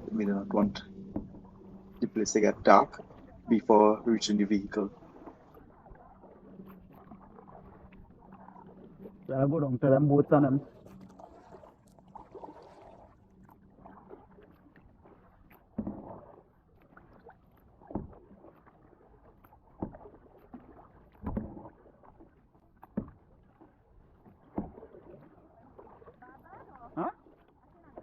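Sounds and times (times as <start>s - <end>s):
paddle splashing in water: 0.0s - 28.0s.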